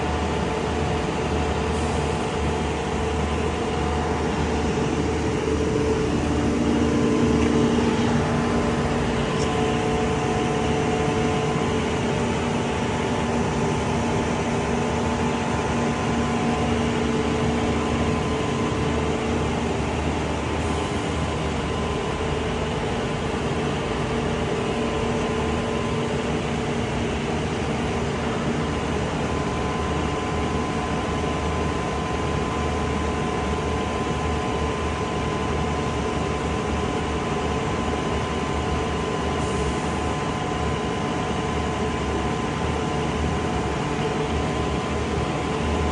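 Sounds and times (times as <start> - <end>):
engine and hydraulic pump drone: 0.0 - 45.9.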